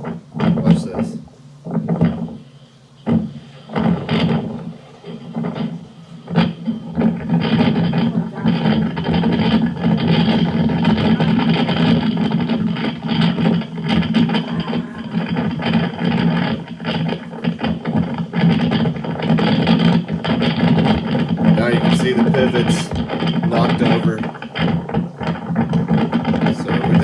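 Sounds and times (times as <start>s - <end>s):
rattles: 3.0s - 27.0s
storm wind buffeting microphone: 3.0s - 27.0s.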